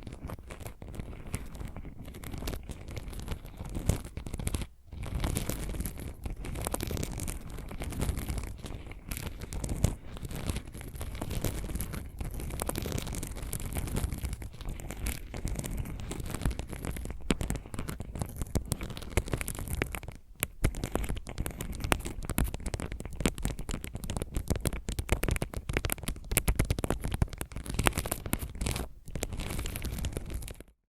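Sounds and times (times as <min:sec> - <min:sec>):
fingernail scratching: 0:00.0 - 0:30.6.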